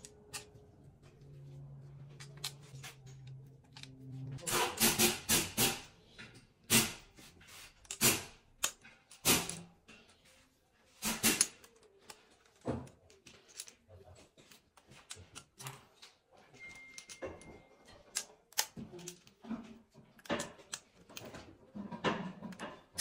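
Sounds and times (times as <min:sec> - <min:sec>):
metal parts clicking and clacking: 0:02.0 - 0:07.0, 0:07.7 - 0:10.2, 0:11.0 - 0:23.0.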